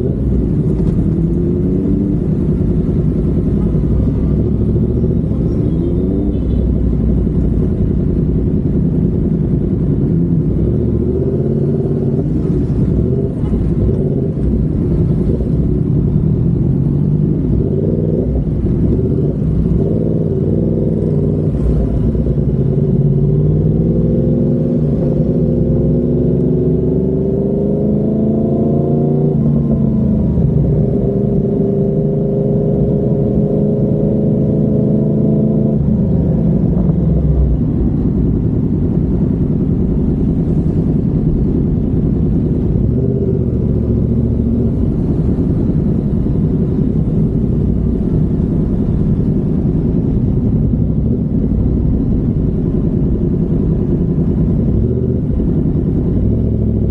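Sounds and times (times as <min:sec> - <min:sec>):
motorcycle engine while riding: 0:00.0 - 0:56.9.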